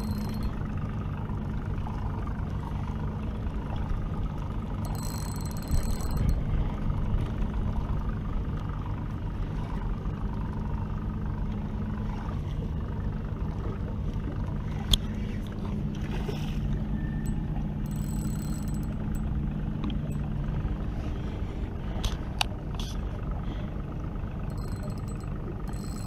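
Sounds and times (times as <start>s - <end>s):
outboard motor idling: 0.0s - 26.0s.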